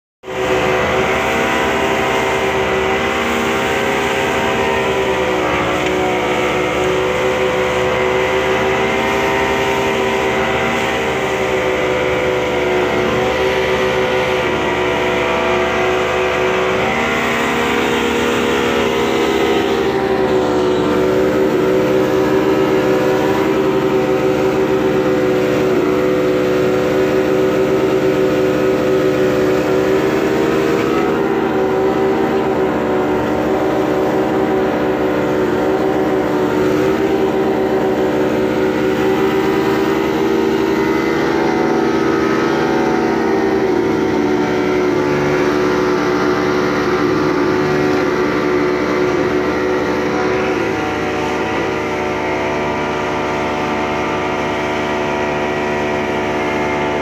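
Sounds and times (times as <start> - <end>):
outboard motors running: 0.2 - 57.0
water rushing against boat hull: 0.2 - 57.0.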